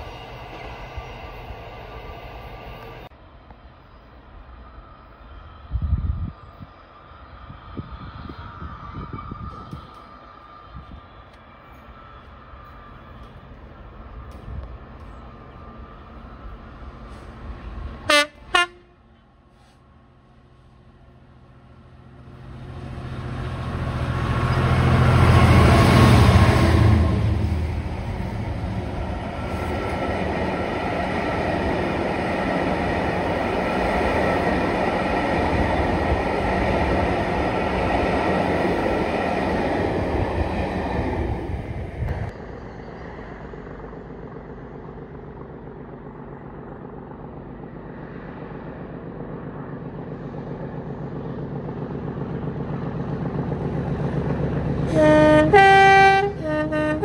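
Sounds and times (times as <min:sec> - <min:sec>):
diesel locomotive passing: 0:00.0 - 0:57.0
rolling noise of train coaches: 0:00.0 - 0:57.0.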